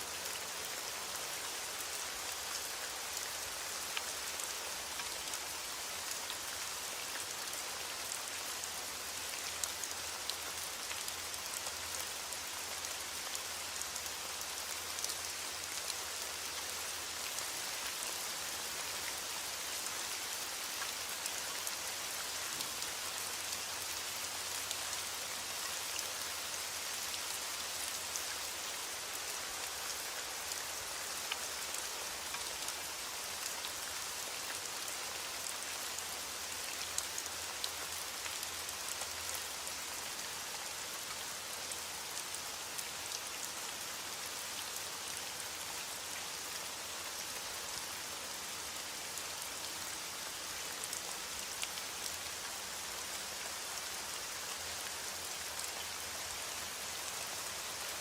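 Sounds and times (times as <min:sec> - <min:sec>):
rain drops pattering: 0:00.0 - 0:58.0.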